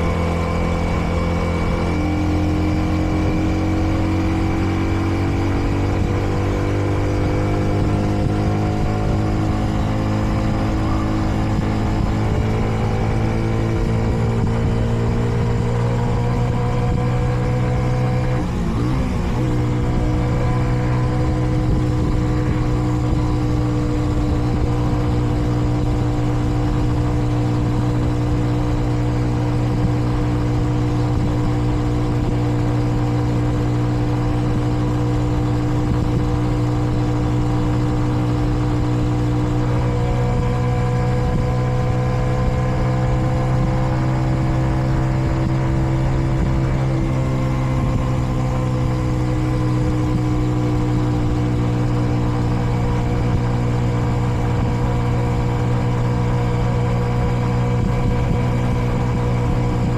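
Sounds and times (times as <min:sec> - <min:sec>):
motorcycle engine cruising: 0:00.0 - 0:59.9
wind rumble on microphone: 0:00.0 - 0:59.9.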